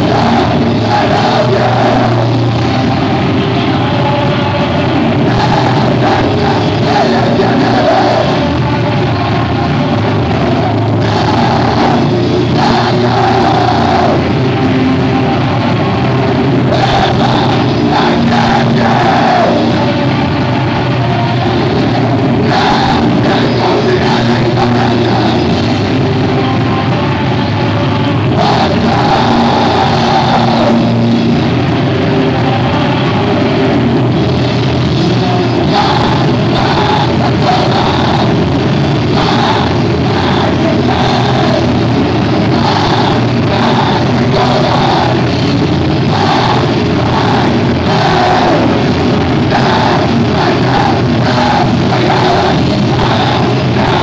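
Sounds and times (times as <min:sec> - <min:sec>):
live screamo band playing: 0:00.0 - 0:54.0.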